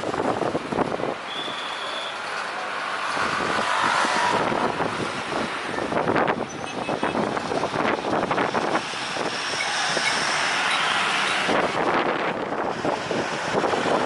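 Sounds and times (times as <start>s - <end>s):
wind buffeting microphone: 0.0s - 1.3s, 3.0s - 14.0s.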